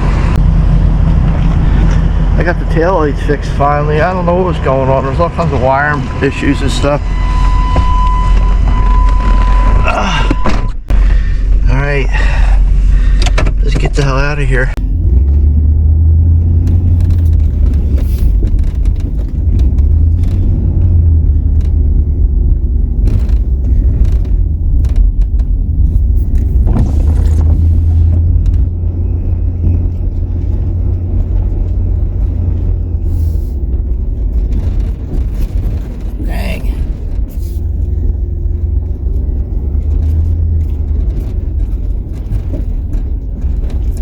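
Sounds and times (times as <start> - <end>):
road noise: 0.0 - 44.0
truck engine rumble: 0.0 - 44.0.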